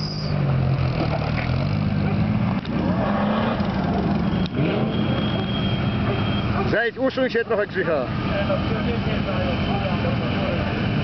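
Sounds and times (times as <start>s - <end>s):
off-road vehicle engines passing: 0.0s - 11.0s.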